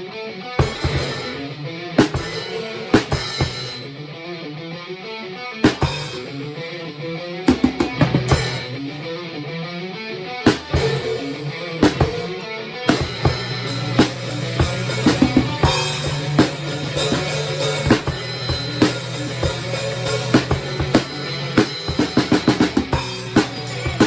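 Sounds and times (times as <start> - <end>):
heavy metal music: 0.0 - 24.0
drum kit beat: 0.6 - 3.9, 5.6 - 6.8, 7.4 - 9.1, 10.4 - 24.0.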